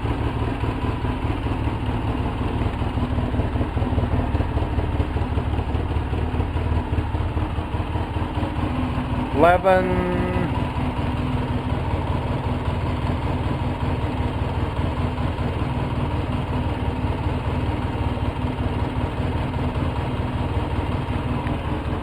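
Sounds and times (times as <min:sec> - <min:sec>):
atv engine idling roughly: 0:00.0 - 0:22.0.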